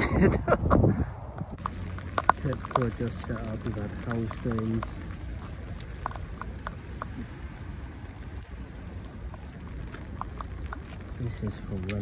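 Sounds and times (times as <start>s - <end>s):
low rumble: 0.0s - 12.0s
raindrops ticking: 1.4s - 12.0s
heavy rain falling: 1.6s - 12.0s.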